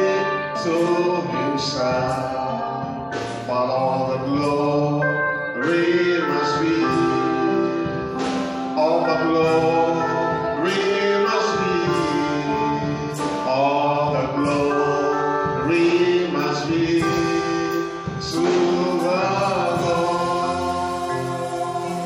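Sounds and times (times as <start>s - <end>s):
gospel singing: 0.0s - 22.0s
instruments holding chords: 0.0s - 22.0s.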